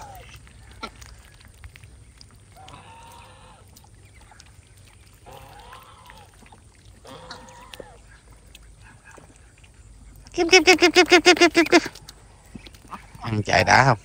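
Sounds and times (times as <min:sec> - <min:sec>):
ducks calling: 0:00.0 - 0:14.0.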